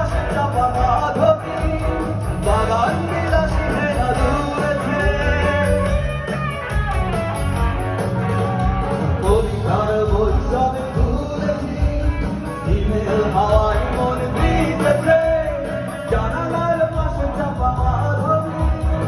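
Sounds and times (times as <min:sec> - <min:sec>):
live band with singer: 0:00.0 - 0:19.0.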